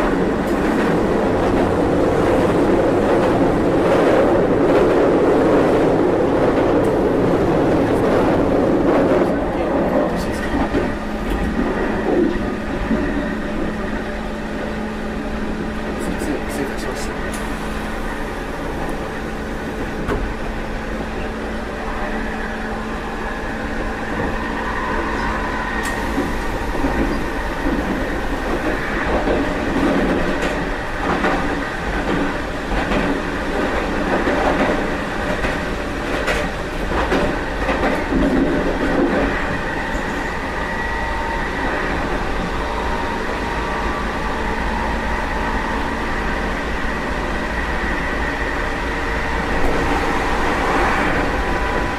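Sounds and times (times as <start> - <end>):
electric train rumble and hum: 0.0 - 51.9.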